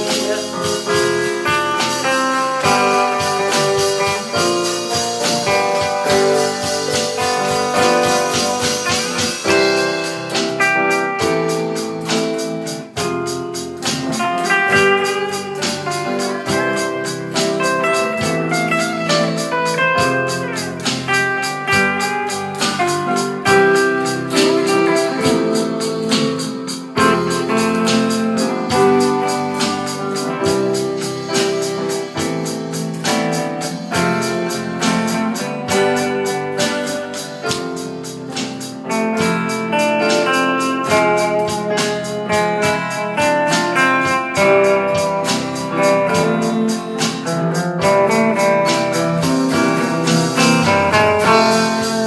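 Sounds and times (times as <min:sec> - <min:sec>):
drums keeping a steady beat: 0:00.0 - 0:52.0
electric bass: 0:00.0 - 0:52.0
electric lead guitar melody: 0:00.0 - 0:52.0
keyboard: 0:00.0 - 0:52.0
rhythm guitar: 0:00.0 - 0:52.0.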